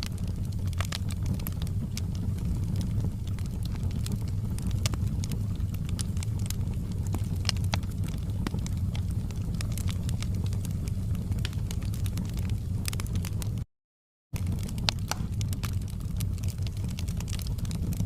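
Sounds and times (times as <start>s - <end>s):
fire crackling and popping: 0.0s - 13.6s, 14.4s - 18.0s
low rumble of flames: 0.0s - 13.6s, 14.4s - 18.0s.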